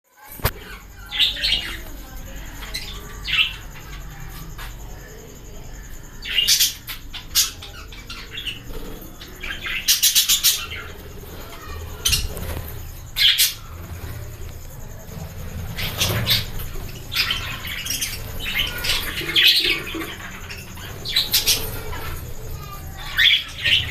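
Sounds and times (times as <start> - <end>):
budgerigars chirping and squawking: 0.4 - 5.2, 6.0 - 14.2, 14.9 - 23.9
steady low hum: 0.5 - 23.9.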